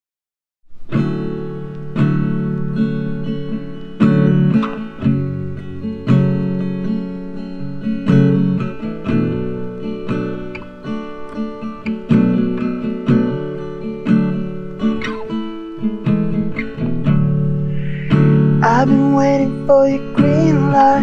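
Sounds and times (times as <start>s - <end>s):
acoustic guitar strumming chords: 0.7s - 21.0s.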